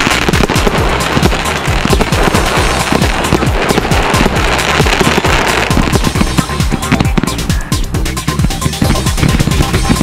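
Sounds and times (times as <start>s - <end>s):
fireworks popping and crackling: 0.0s - 10.0s
music: 0.0s - 10.0s.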